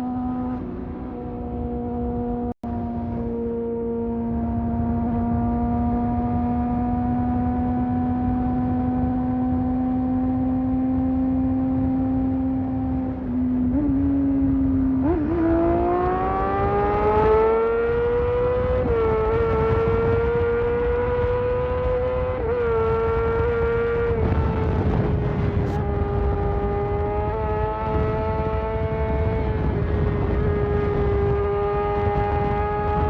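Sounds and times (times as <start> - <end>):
motorcycle engine accelerating: 0.0 - 33.0
wind and road rumble: 0.0 - 33.0.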